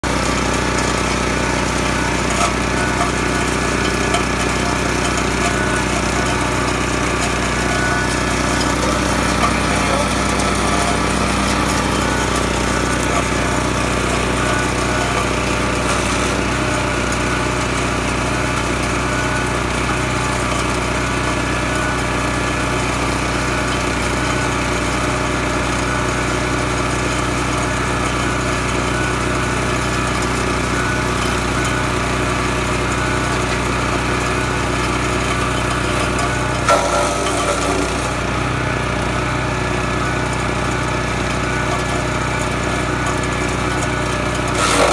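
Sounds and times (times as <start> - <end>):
wood chipper engine running: 0.0 - 44.9.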